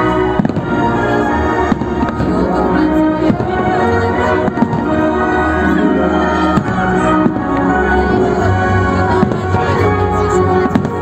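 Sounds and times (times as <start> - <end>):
fireworks bursting: 0.0 - 11.0
music with sustained chords: 0.0 - 11.0.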